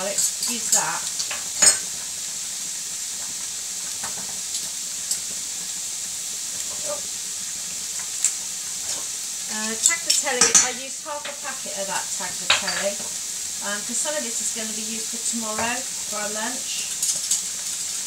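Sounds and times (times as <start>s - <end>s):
food frying in a pan: 0.0s - 18.0s.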